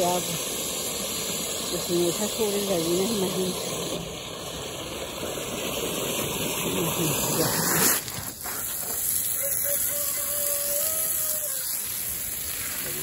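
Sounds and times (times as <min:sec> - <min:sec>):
water running from hose into bucket: 0:00.0 - 0:13.0.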